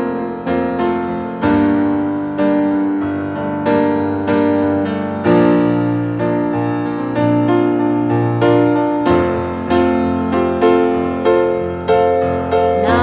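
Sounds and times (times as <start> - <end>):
piano chords: 1.5 - 13.0.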